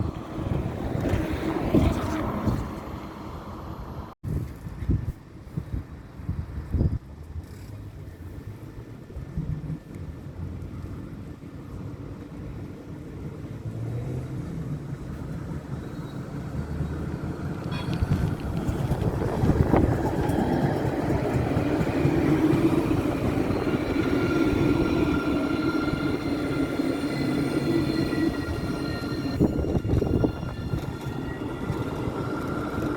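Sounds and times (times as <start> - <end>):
tram rumbling on rails: 0.0 - 32.9.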